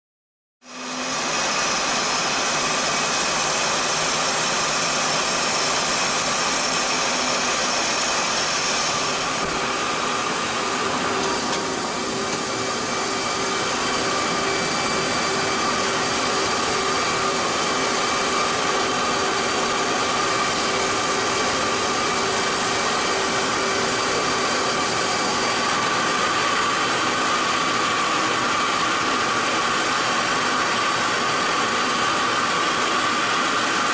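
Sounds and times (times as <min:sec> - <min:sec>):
jet engines idling: 0:00.7 - 0:33.9.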